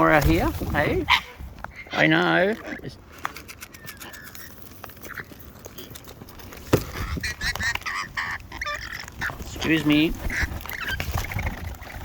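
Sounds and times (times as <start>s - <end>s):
wild birds squawking: 0.0s - 5.6s, 6.6s - 12.0s.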